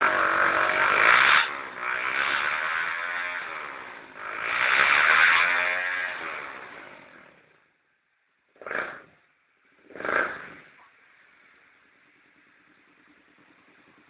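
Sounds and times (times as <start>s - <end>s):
motorcycle engine revving: 0.0s - 7.8s, 8.5s - 14.0s.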